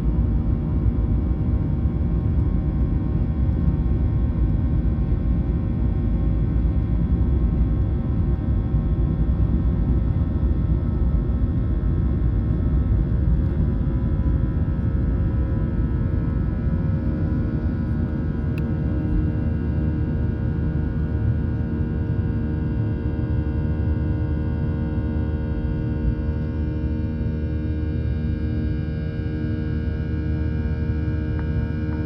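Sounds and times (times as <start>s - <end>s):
faint engine whine: 0.0s - 32.0s
jet engine cabin rumble: 0.0s - 32.0s.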